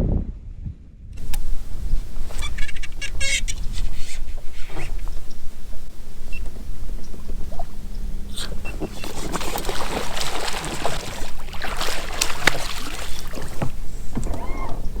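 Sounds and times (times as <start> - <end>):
faint low hum: 0.2 - 15.0
crackling and scraping: 1.2 - 15.0
water splashing: 1.2 - 15.0.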